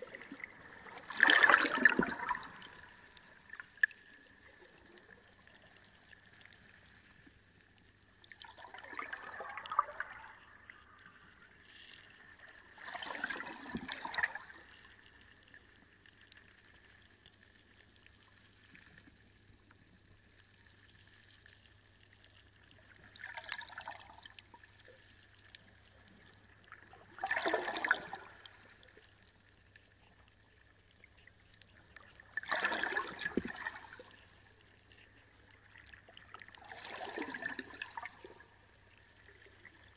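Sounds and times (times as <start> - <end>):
aquarium water splashing and gurgling: 0.0 - 16.6, 20.7 - 39.9
faint steady hum: 0.0 - 39.9.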